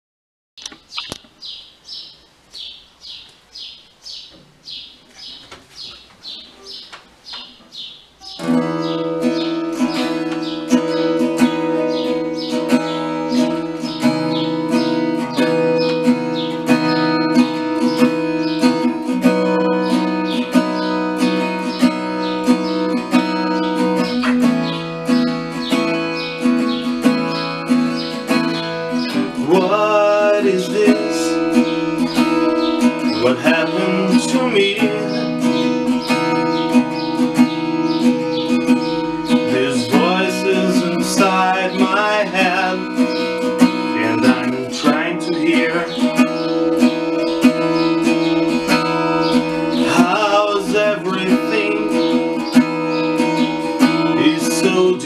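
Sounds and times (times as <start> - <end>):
fingerpicked acoustic guitar: 8.2 - 55.0.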